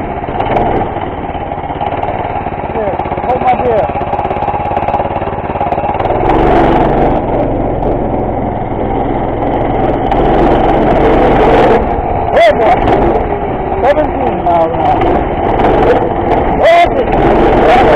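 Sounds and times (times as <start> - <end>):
go-kart engine revving: 0.0 - 17.9.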